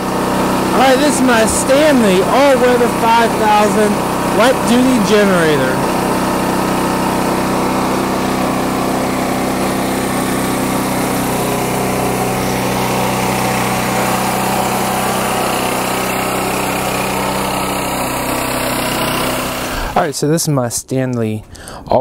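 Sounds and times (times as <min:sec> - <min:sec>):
generator engine running: 0:00.0 - 0:20.2.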